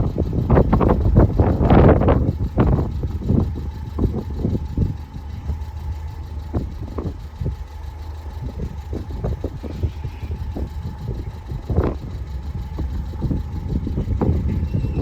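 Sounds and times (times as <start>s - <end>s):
faint steady tone: 0.0s - 15.0s
road traffic: 0.0s - 15.0s.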